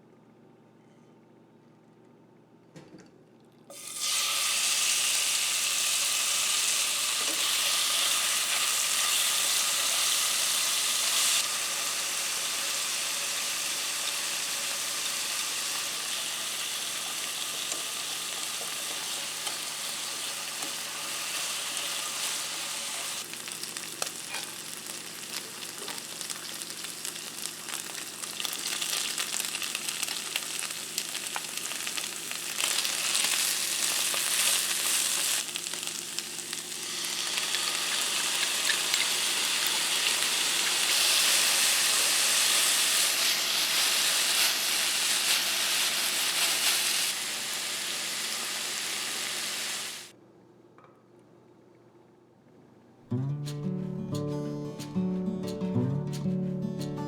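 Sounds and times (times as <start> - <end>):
food sizzling in a pan: 3.7 - 50.1.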